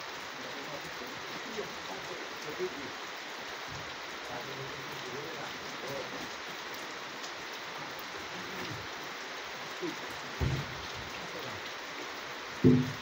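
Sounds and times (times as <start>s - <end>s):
faint men's voices: 0.0s - 7.0s, 7.7s - 13.0s
steady hiss: 0.0s - 13.0s.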